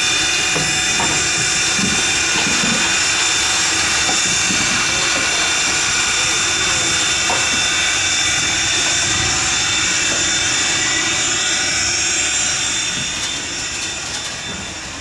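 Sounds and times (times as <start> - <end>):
steam locomotive hissing steam: 0.0 - 15.0.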